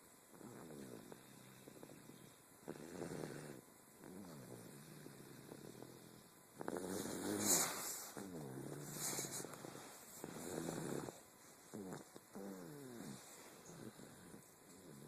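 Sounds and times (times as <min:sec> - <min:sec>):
person snoring: 0:00.3 - 0:15.0.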